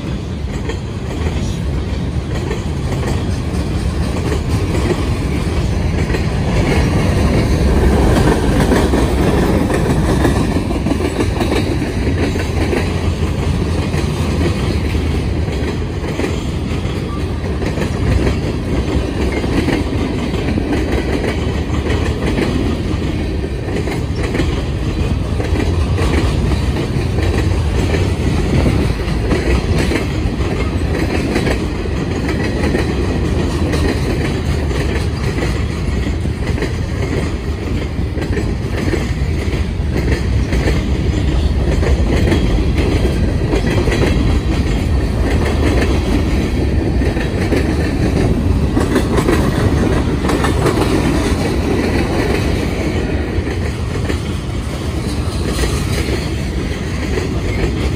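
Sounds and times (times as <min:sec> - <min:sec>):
freight train wheels rumbling: 0:00.0 - 0:57.9.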